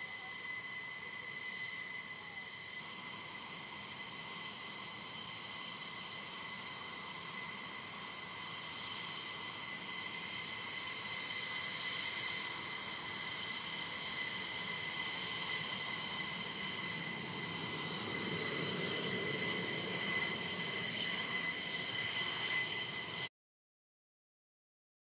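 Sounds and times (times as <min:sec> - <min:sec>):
jet engines whining: 0:00.0 - 0:23.3.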